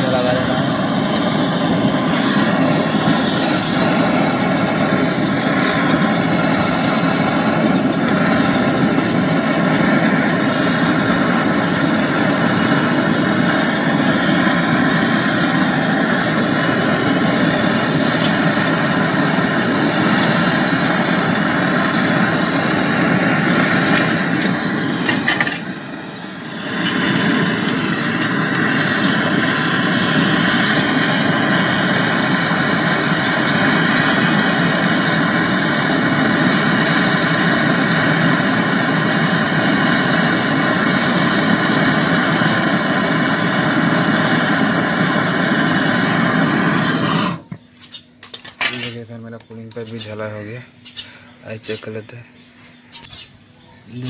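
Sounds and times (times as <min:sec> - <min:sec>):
torch flame rushing: 0:00.0 - 0:48.9.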